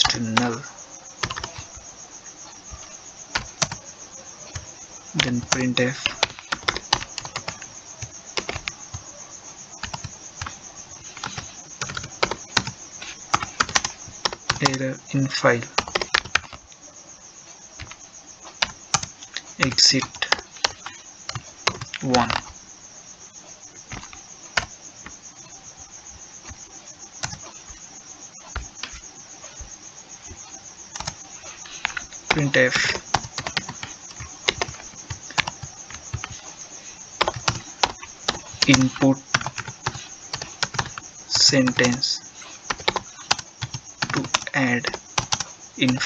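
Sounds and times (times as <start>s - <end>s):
computer keyboard typing: 0.0s - 1.8s, 2.7s - 3.8s, 4.5s - 9.0s, 9.8s - 16.7s, 17.8s - 22.6s, 23.9s - 25.5s, 27.2s - 27.8s, 28.4s - 29.6s, 30.2s - 46.0s
steady high-pitched hiss: 0.0s - 46.0s.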